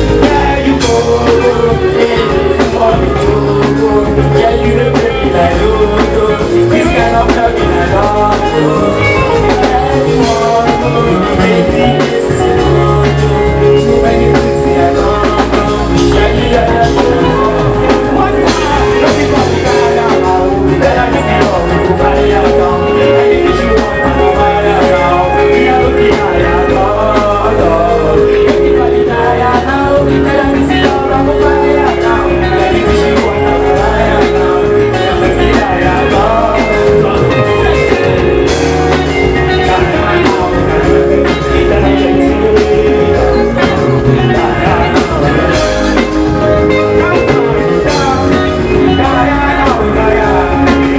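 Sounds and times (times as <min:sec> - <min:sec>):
loud live band music: 0:00.0 - 0:50.9
person singing: 0:00.0 - 0:50.9.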